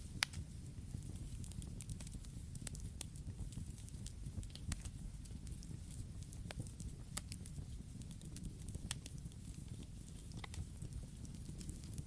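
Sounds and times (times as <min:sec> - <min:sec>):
burning wood crackling and popping: 0:00.0 - 0:12.0
rumble of flames: 0:00.0 - 0:12.0.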